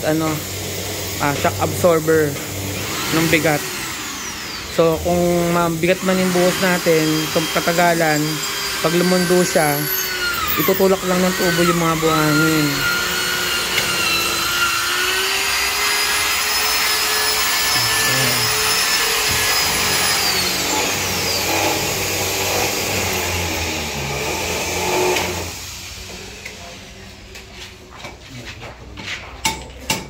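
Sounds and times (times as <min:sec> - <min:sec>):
power tool motor whining: 0:00.1 - 0:26.1.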